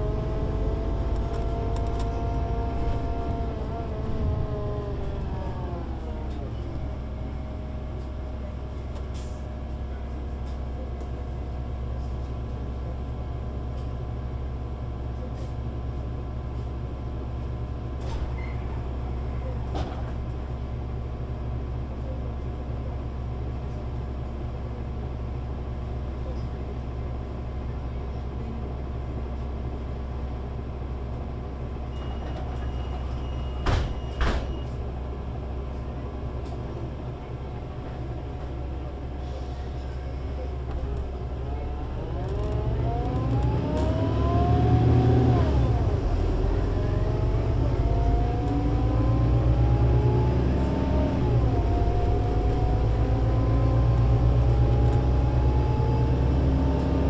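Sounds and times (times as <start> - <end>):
bus engine idling and accelerating: 0.0 - 57.0.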